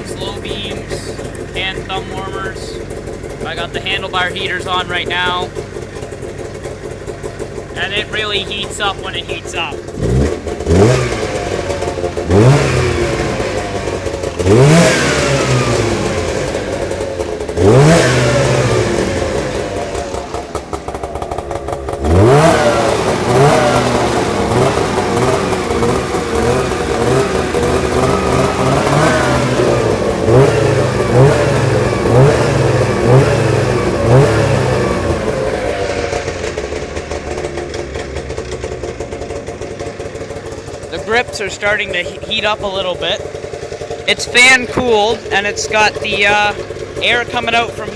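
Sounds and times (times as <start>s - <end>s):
two-stroke engine revving: 0.0s - 47.9s.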